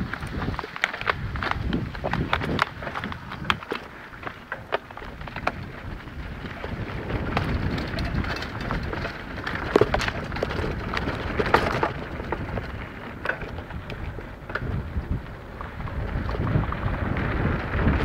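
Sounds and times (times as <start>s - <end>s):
bike rattling clicks: 0.0s - 18.0s
bike tyres crackling on grit: 0.0s - 18.0s
steady low rumble: 0.0s - 18.0s.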